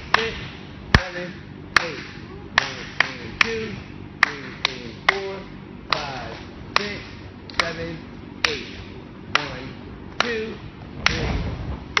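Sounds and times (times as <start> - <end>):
rhythmic clapping and stomping: 0.0 - 12.0.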